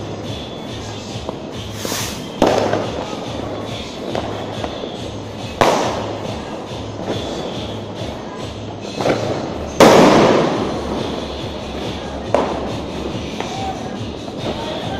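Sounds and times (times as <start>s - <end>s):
distant fireworks crackle: 0.0s - 14.9s
loud firecracker bangs: 1.2s - 8.0s, 8.8s - 14.9s.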